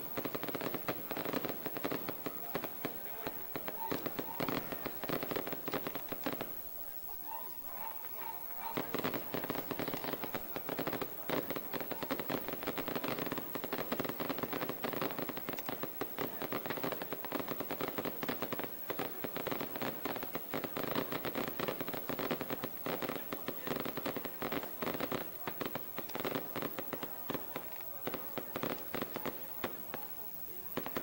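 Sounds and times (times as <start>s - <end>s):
firecrackers crackling: 0.0s - 31.0s.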